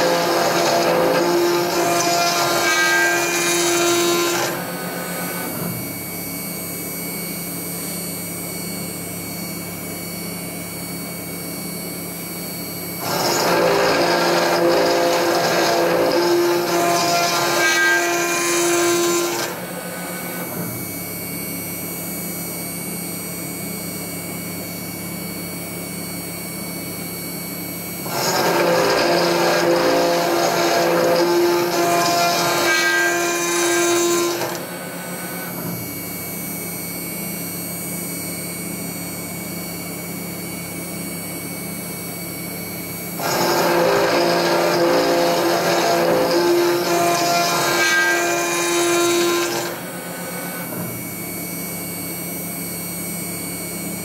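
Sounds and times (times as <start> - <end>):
cnc router cutting steel with ringing: 0.0 - 54.0.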